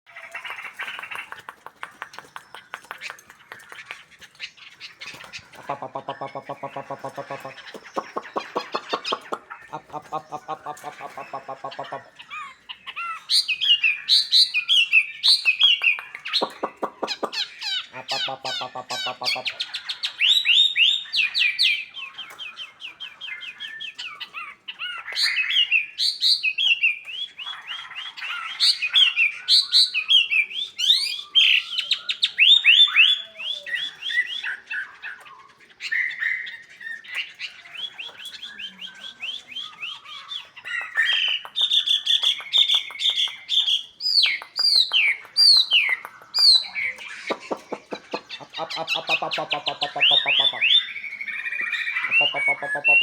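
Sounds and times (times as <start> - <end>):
hoarse bird calls: 0.1 - 25.5, 35.8 - 53.0
songbird chirps and trills: 0.1 - 53.0.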